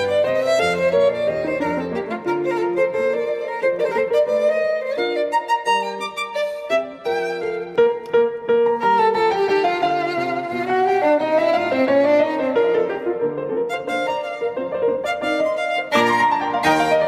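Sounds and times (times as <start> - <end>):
violin melody with vibrato: 0.0 - 17.0.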